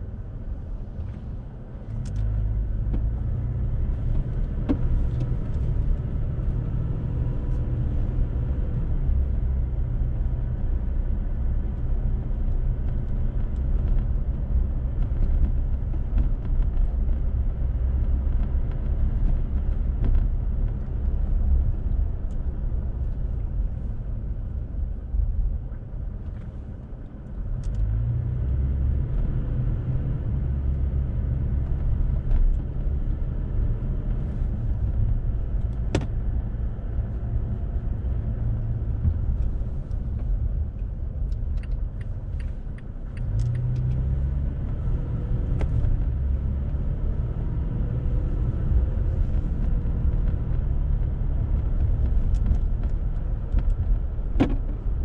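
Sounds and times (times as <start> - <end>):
car driving heard from inside: 0.0 - 55.0.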